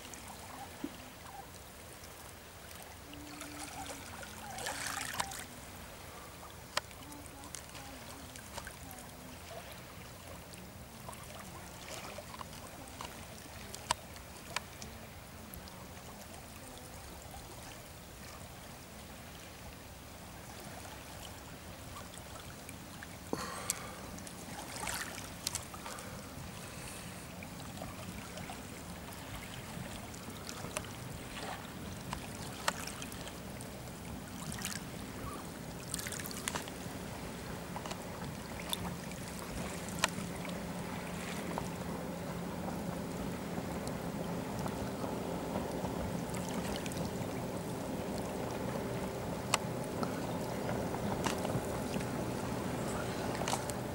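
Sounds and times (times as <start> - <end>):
motorboat engine drone: 0.0 - 53.9
small waves lapping: 0.0 - 53.9.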